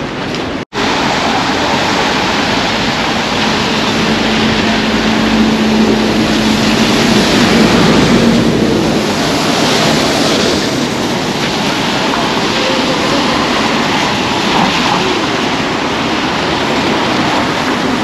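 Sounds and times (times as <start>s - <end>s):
bus driving past: 0.0s - 18.0s
tyres hissing on wet road: 0.0s - 18.0s.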